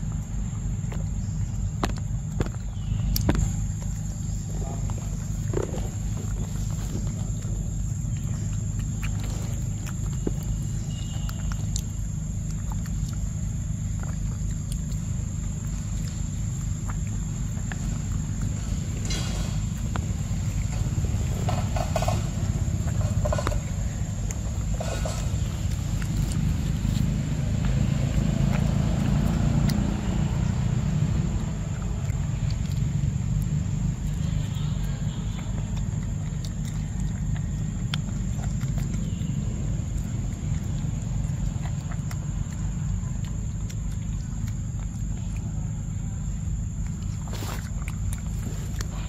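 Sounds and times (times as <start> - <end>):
monkey chewing fruit clicks: 0.0 - 49.0.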